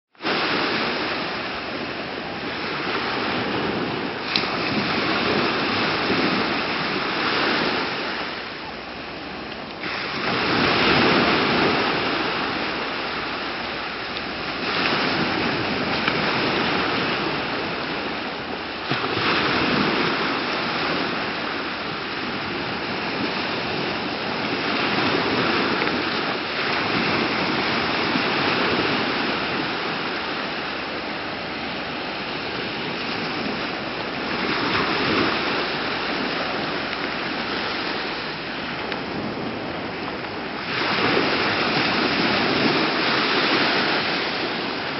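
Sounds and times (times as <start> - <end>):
small waves washing on sandy shore: 0.1 - 44.9.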